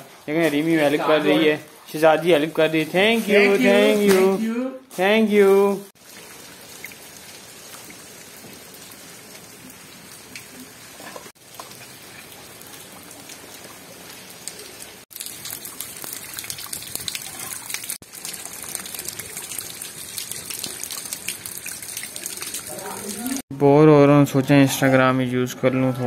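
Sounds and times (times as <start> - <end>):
rain falling: 0.0 - 23.4.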